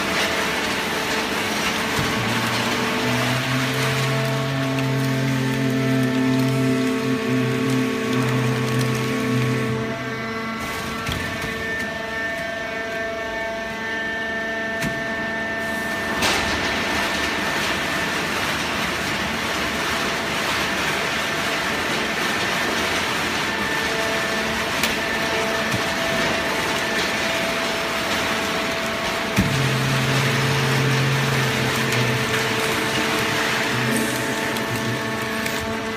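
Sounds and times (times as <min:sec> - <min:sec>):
hydraulic baler whine: 0:00.0 - 0:35.9.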